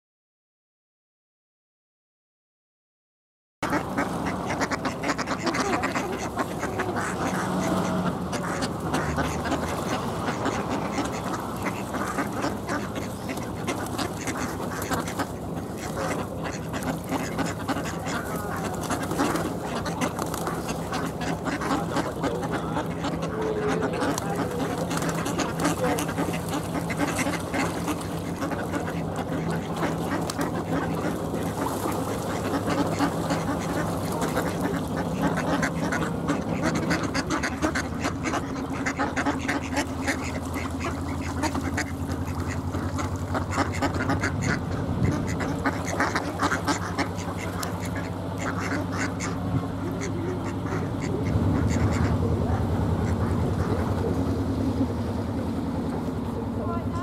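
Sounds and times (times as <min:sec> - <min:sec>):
boat engine idling: 0:03.6 - 0:57.0
ducks quacking: 0:03.6 - 0:57.0.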